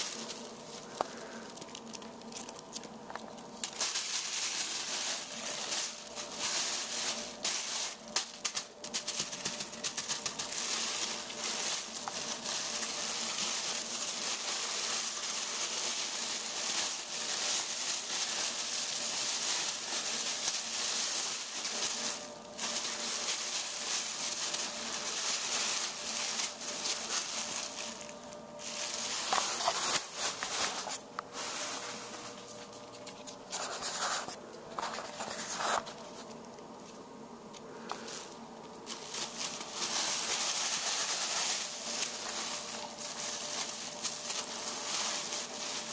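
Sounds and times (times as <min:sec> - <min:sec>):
plastic bag crinkling: 0:00.0 - 0:37.0, 0:37.6 - 0:45.9.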